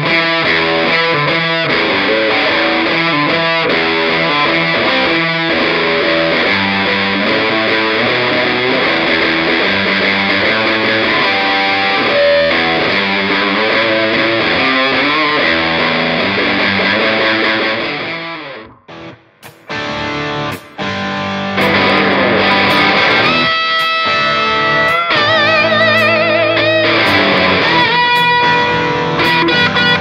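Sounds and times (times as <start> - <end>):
distorted electric guitar riff: 0.0 - 30.0.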